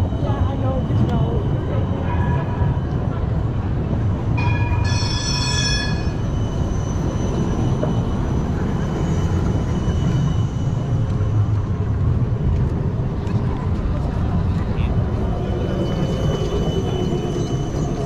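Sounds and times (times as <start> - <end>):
tram rumbling past: 0.0 - 18.0
wheels squealing on rails: 0.0 - 18.0.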